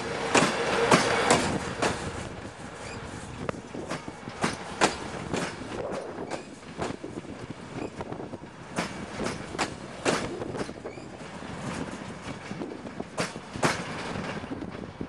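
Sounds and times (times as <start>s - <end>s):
railway coaches rumbling: 0.0s - 15.0s
train wheels clicking over track joints: 0.0s - 15.0s.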